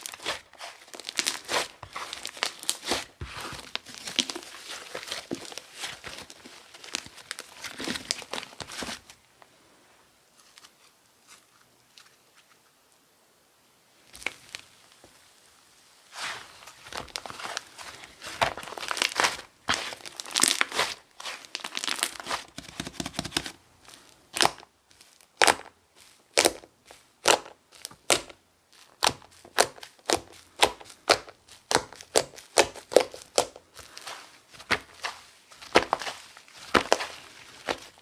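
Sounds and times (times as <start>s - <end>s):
slime crackling and crunching: 0.0s - 9.1s, 14.1s - 14.8s, 16.1s - 38.0s.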